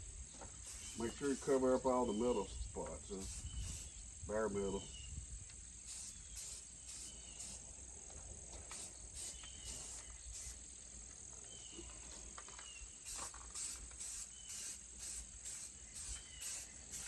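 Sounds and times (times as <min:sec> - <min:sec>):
insects trilling: 0:00.1 - 0:17.0.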